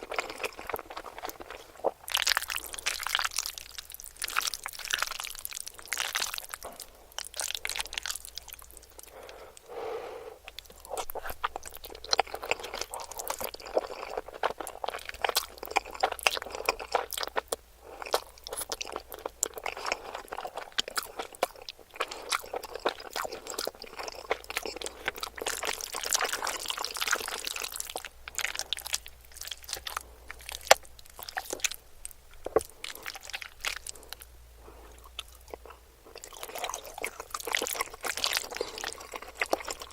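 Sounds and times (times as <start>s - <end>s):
chewing with crisp crunches: 0.0s - 39.9s.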